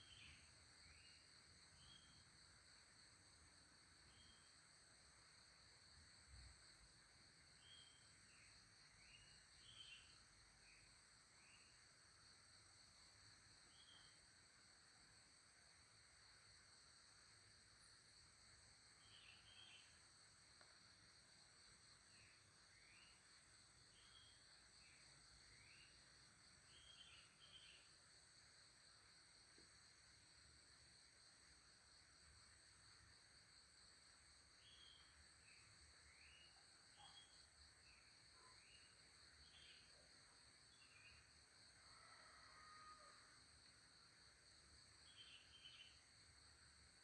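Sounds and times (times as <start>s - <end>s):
high insect drone: 0.0s - 47.0s.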